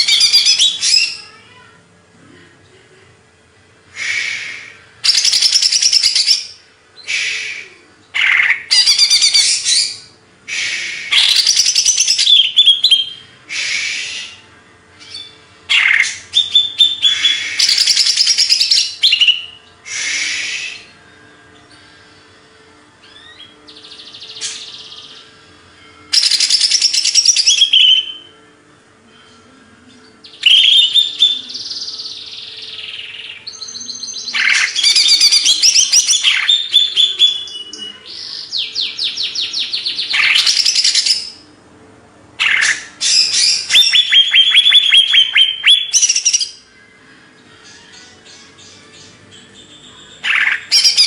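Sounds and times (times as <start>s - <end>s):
bird singing trills and whistles: 0.0s - 1.2s, 4.0s - 14.4s, 15.0s - 21.0s, 23.0s - 25.3s, 26.1s - 28.3s, 30.2s - 41.4s, 42.4s - 46.7s, 47.6s - 51.0s.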